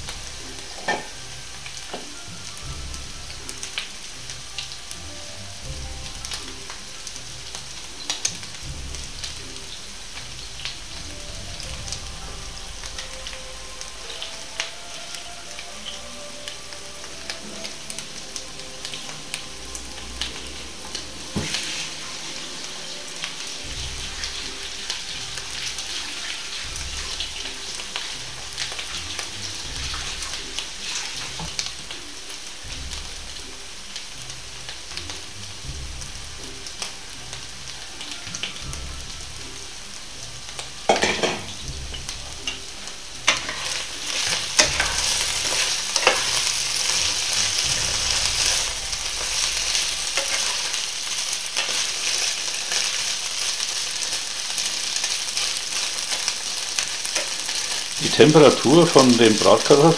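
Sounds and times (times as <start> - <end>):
meat sizzling in a frying pan: 0.0 - 59.9.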